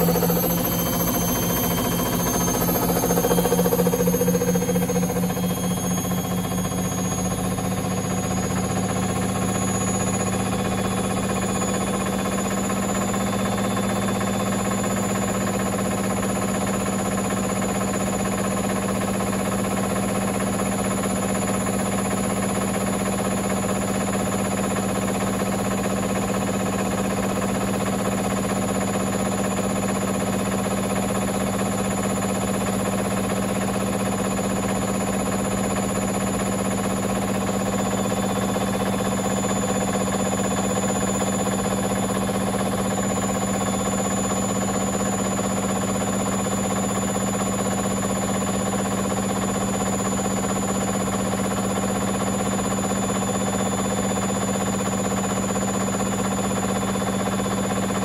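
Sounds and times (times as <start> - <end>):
washer dryer motor hum: 0.0 - 58.0.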